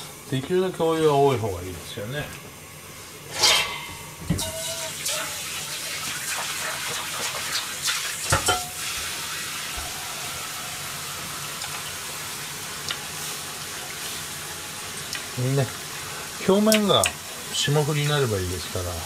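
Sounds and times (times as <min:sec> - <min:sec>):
pan of hot water hissing: 0:00.0 - 0:19.0.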